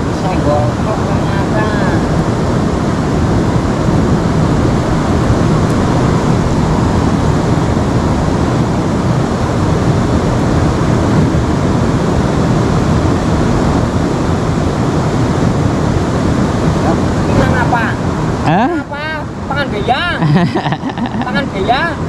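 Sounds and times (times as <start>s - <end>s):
river water rushing: 0.0s - 18.6s.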